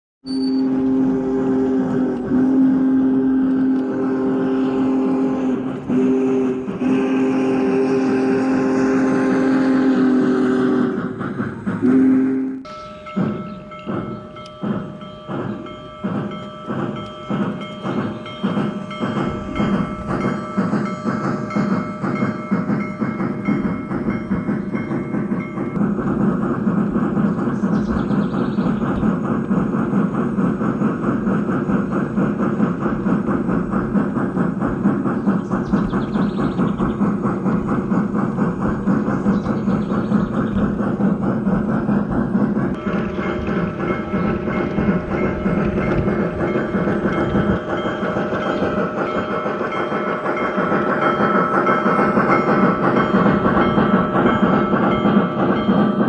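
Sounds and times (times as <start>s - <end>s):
model steam locomotive chuffing: 0.3s - 56.0s.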